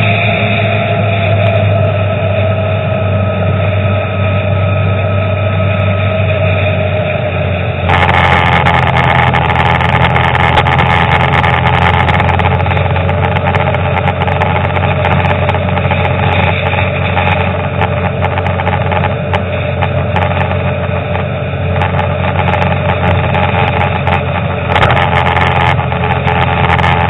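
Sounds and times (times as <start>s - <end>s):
car engine hum: 0.0s - 27.0s
road noise rushing: 0.0s - 27.0s.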